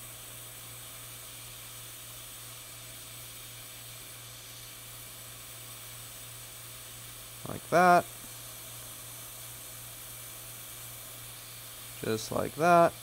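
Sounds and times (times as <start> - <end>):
hot air station hissing: 0.0 - 13.0.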